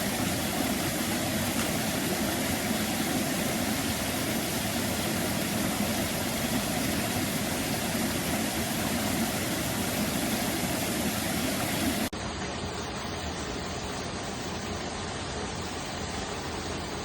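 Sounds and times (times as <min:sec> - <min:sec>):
stream water rushing over rocks: 0:00.0 - 0:17.0.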